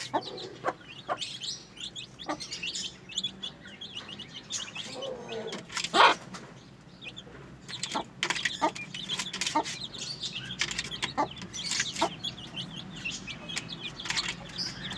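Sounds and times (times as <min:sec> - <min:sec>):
chicken clucks: 0:00.0 - 0:14.9
chicks cheeping: 0:00.0 - 0:14.9.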